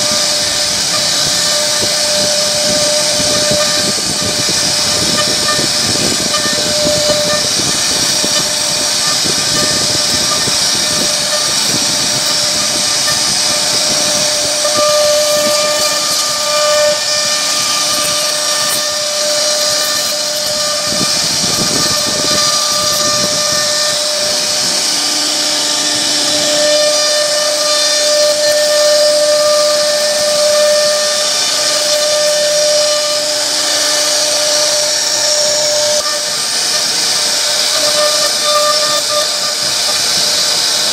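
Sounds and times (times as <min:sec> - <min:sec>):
hiss of bit cutting wood: 0:00.0 - 0:40.9
router spindle high whine: 0:00.0 - 0:40.9.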